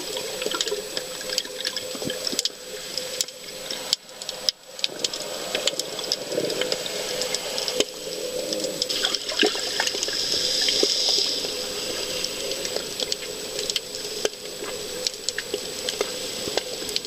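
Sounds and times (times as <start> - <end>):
bubbling hiss: 0.0 - 17.0
clicks and crackles: 0.0 - 17.0
underwater watery rush: 0.0 - 17.0.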